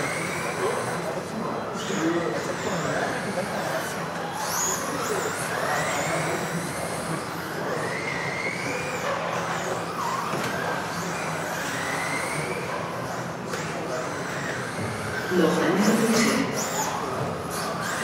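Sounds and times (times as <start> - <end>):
electric motor whines: 0.0 - 18.0
steady noisy background: 0.0 - 18.0.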